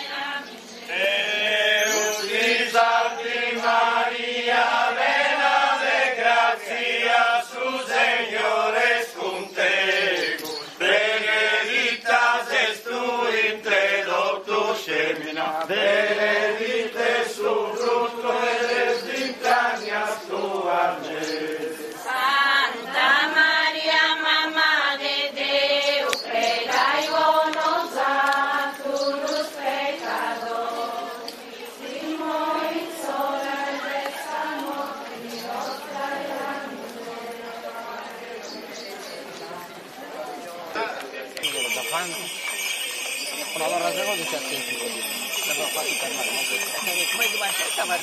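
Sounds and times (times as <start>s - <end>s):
group singing religious chant: 0.0s - 41.0s.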